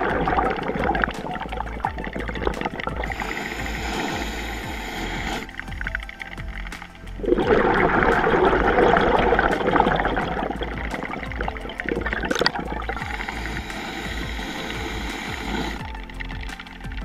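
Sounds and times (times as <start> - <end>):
underwater bubbles rushing: 0.0 - 17.0.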